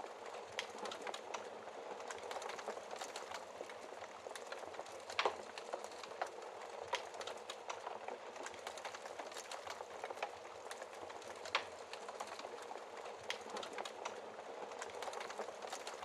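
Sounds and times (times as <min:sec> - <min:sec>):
fire snaps and pops: 0:00.2 - 0:16.0.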